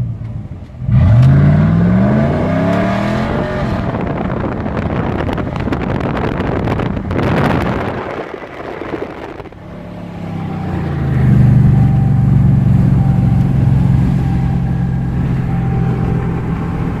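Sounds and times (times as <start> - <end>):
pickup truck exhaust droning: 0.0 - 17.0.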